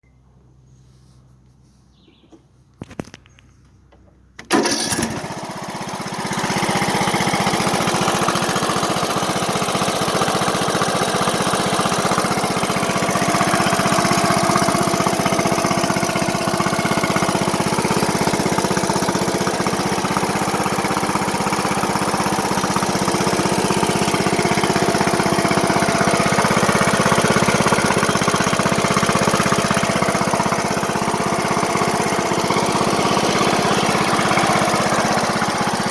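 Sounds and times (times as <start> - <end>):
engine starting and running: 2.1 - 35.9.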